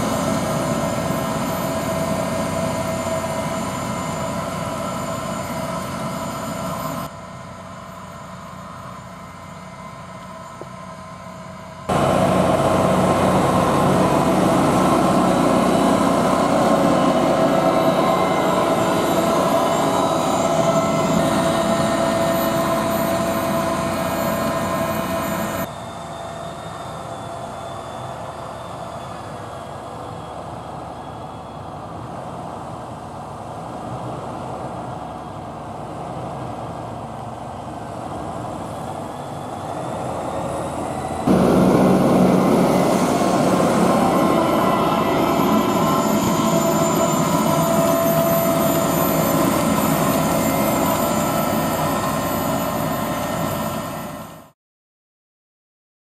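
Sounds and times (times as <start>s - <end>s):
steady machine whine: 0.0s - 32.0s, 37.5s - 54.6s
tractor diesel engine under load: 0.0s - 54.6s.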